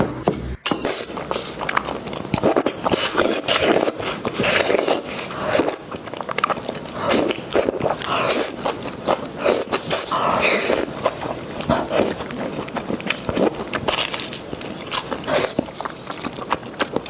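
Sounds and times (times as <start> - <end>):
chewing noodles: 0.9 - 17.0.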